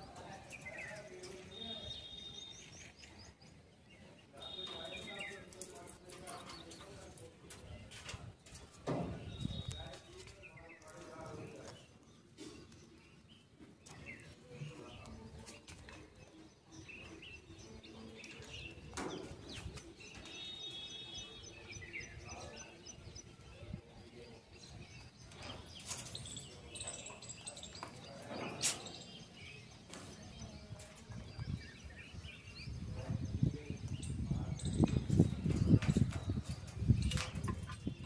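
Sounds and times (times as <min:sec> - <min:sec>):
bird chirps and calls: 0:00.0 - 0:07.1, 0:08.5 - 0:38.0.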